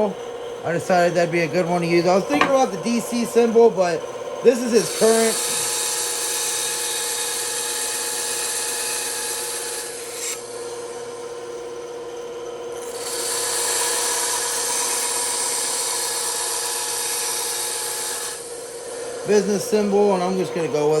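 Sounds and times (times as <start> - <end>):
bandsaw cutting wood: 0.0 - 11.2, 12.8 - 21.0.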